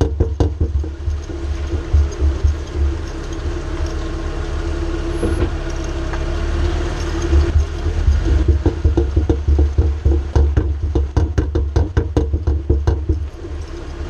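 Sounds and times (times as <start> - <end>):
rapid knocking: 0.0 - 5.9, 6.9 - 14.0
driveline rumble and drone: 0.0 - 14.0.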